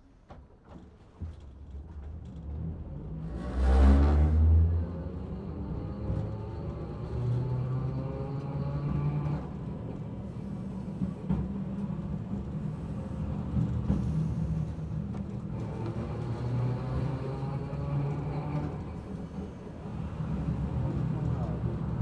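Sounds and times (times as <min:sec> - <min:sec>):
wheels rumbling on rail: 0:00.1 - 0:22.0.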